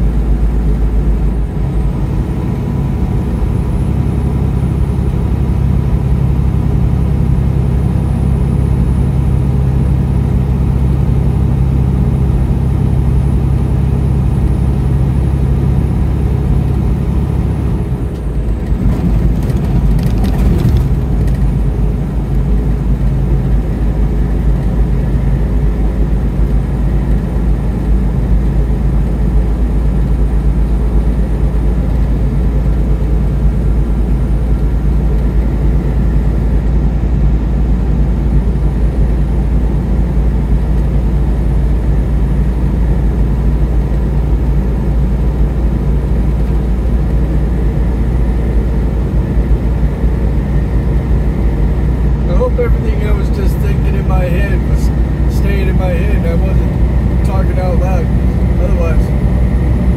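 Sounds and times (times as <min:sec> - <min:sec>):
vehicle engine and road noise: 0:00.0 - 0:59.9.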